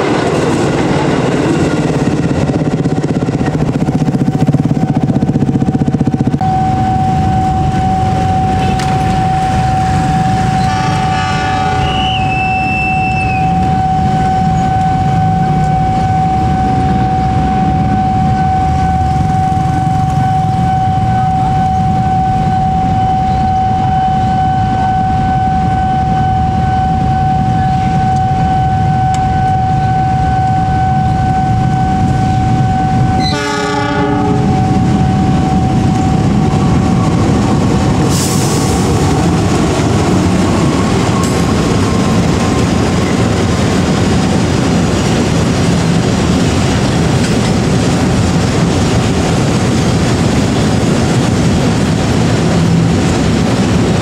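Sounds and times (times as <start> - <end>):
steady high tone: 0.0 - 44.8
locomotive engine running: 0.0 - 54.0
wagons rumbling over rails: 0.0 - 54.0.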